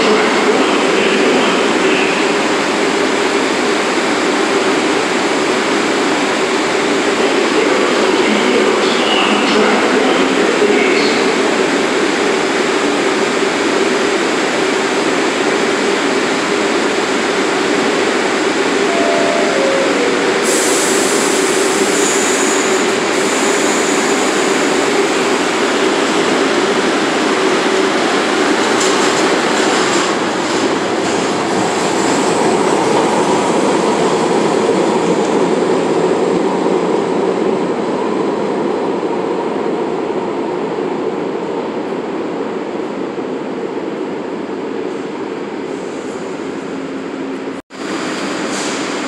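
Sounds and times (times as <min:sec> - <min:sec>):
subway train accelerating: 0:00.0 - 0:49.0.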